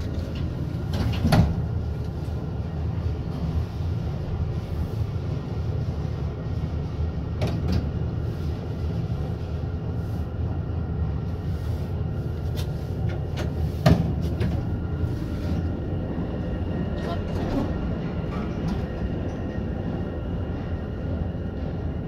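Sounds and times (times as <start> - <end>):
elevator car rumbling: 0.0 - 22.0.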